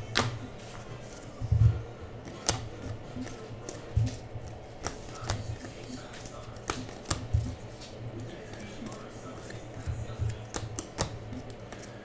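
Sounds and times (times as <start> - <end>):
trading cards flipping and snapping: 0.0 - 1.4, 2.2 - 12.0.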